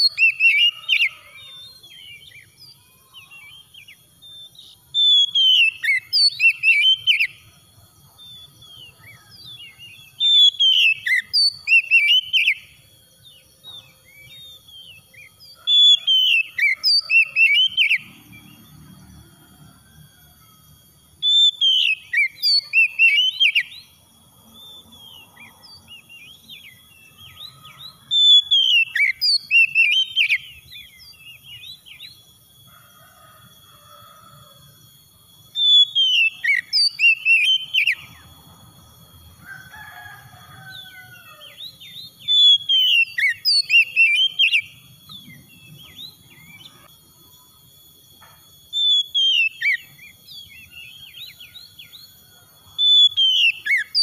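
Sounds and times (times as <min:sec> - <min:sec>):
bird singing whistled notes: 0:00.0 - 0:33.4, 0:34.1 - 0:54.0.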